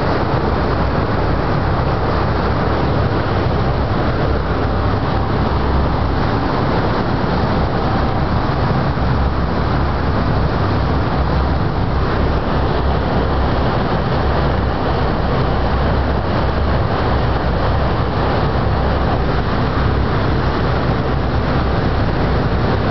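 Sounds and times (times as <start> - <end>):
churning wake rushing: 0.0 - 22.9
motorboat motor: 0.0 - 22.9.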